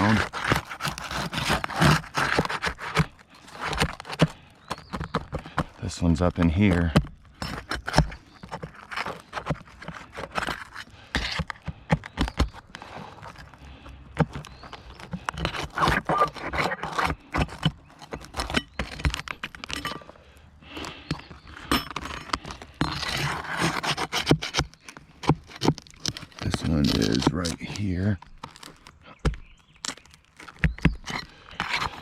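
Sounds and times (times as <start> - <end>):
shingles scraping and rustling: 0.0 - 32.0.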